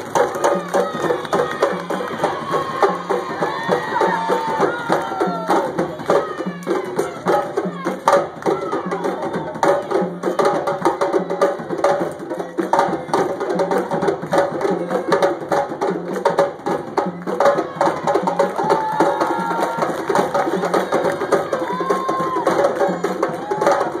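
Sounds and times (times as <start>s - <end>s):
drums playing driving rhythm: 0.0s - 24.0s.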